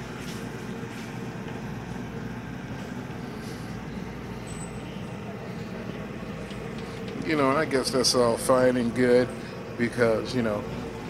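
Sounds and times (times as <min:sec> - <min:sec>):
low store background rumble: 0:00.0 - 0:11.0.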